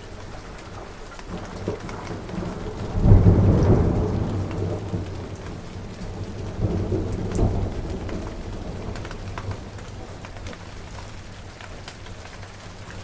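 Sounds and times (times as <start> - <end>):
thunder rumbling: 0.0 - 11.4
steady rainfall: 0.0 - 13.0.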